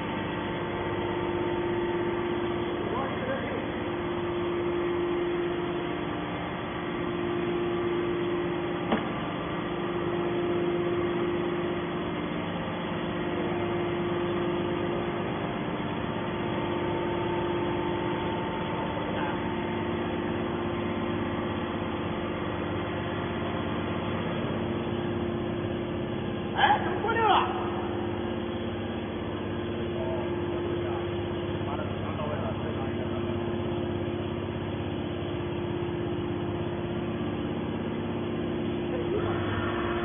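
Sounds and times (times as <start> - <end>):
hydraulic pump motor humming: 0.0 - 40.0.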